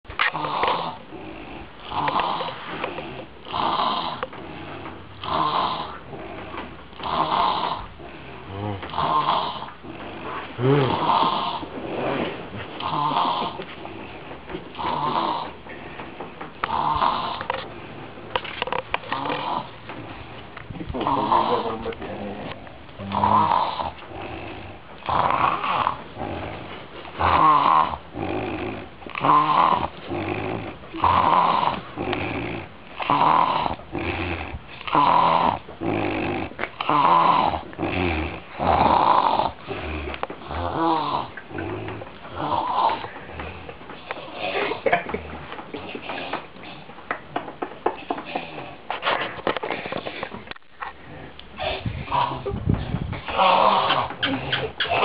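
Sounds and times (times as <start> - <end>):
loud snoring: 0.1 - 20.1, 20.9 - 44.9, 51.1 - 55.0.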